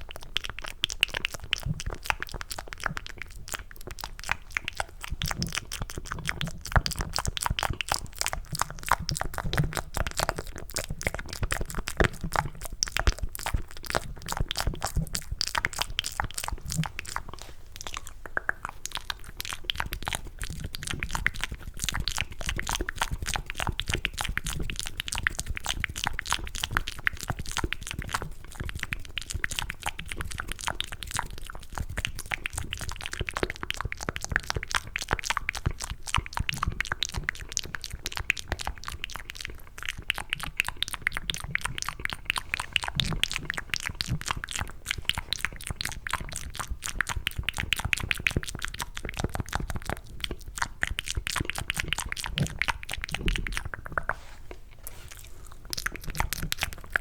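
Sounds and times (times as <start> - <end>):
wet mouth clicking and smacking: 0.0 - 57.0.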